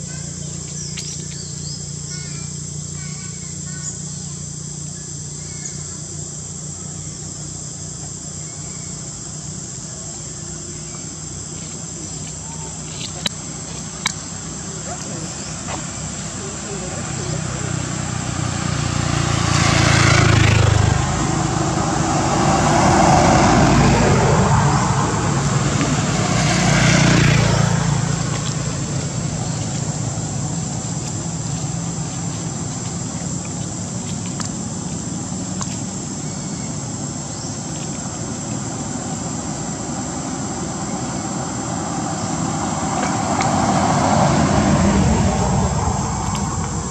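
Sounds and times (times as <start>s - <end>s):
road noise hum: 0.0s - 46.9s
vehicles passing by: 0.0s - 46.9s.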